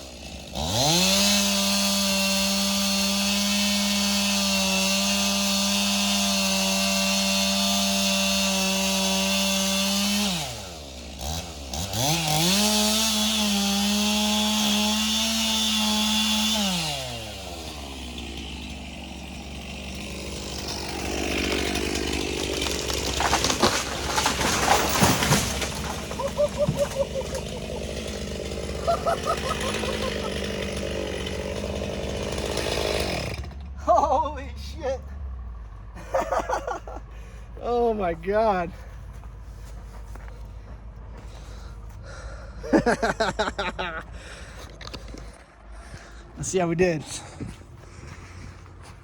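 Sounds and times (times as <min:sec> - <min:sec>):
chainsaw cutting at full throttle: 0:00.0 - 0:49.0.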